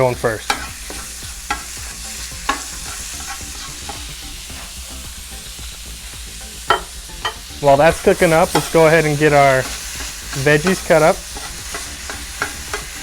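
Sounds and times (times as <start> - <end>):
meat sizzling in a skillet: 0.0 - 13.0.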